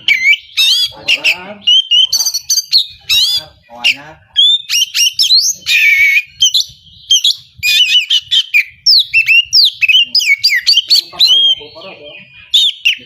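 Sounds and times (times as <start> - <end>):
bird singing whistled notes: 0.0 - 13.0.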